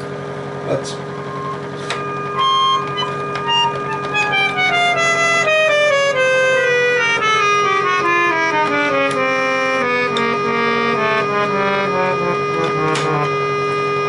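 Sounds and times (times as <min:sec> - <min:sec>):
loud blower fan: 0:00.0 - 0:14.0
electric organ descending notes: 0:01.0 - 0:14.0
stuck organ note sounding: 0:01.1 - 0:14.0.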